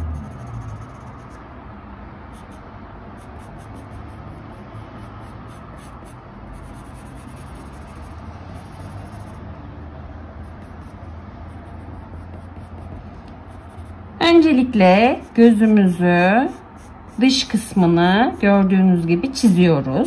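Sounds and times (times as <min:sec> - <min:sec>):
pencil scratching on paper: 0:00.0 - 0:01.4, 0:02.3 - 0:02.6, 0:03.2 - 0:09.4, 0:10.4 - 0:18.5
low steady hum: 0:00.0 - 0:20.0.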